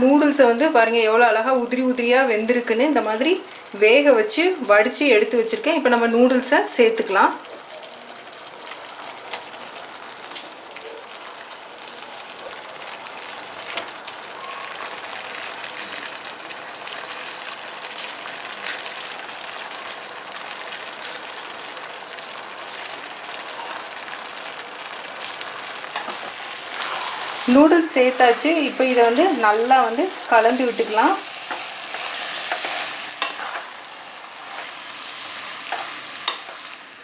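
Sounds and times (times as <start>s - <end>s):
food sizzling in a pan: 0.0s - 37.0s.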